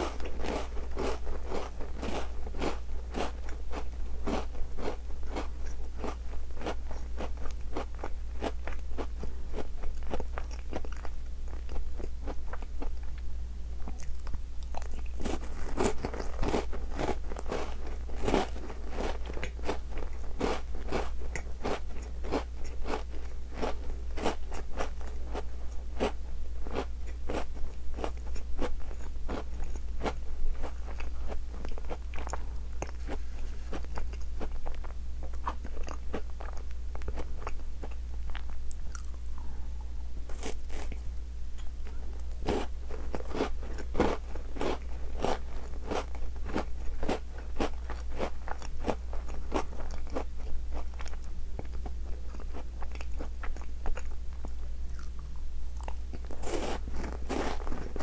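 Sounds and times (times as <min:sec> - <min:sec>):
chewing and crunching biscuit: 0:00.0 - 0:39.6, 0:40.2 - 0:58.0.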